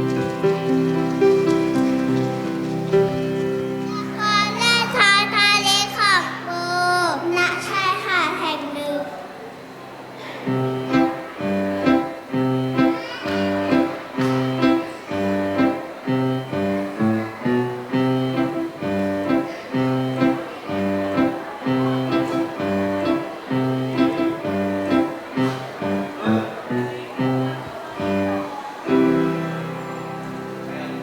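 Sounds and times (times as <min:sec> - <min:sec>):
plucked string notes: 0:00.0 - 0:05.5, 0:10.5 - 0:31.0.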